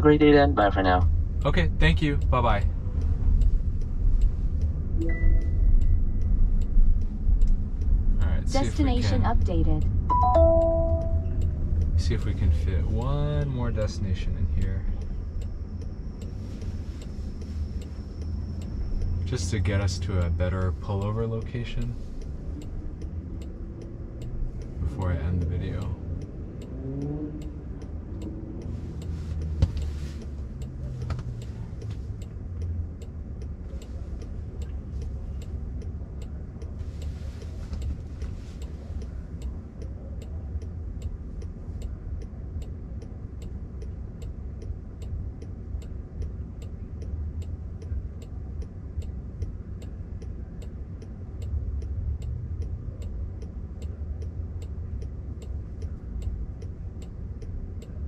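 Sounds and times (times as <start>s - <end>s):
traffic passing: 0.0s - 58.0s
turn signal ticking: 0.0s - 58.0s.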